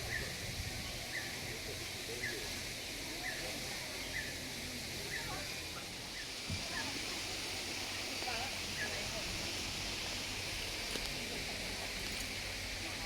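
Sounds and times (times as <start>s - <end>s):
faint distant voices: 0.0s - 13.0s
outdoor hiss: 0.0s - 13.0s.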